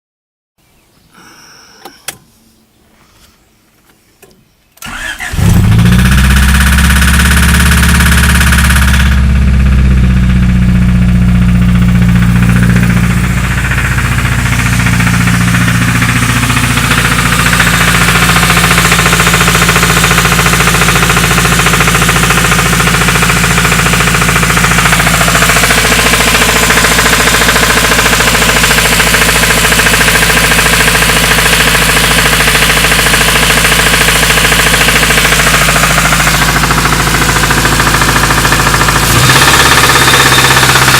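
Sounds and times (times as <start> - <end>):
engine running with rod knock: 4.2 - 40.9
car engine starting: 4.8 - 40.9.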